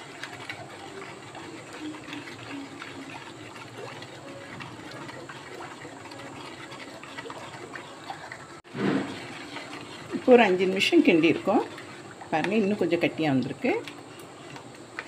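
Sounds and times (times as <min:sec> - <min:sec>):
ladle stirring thick batter: 0:00.0 - 0:15.0.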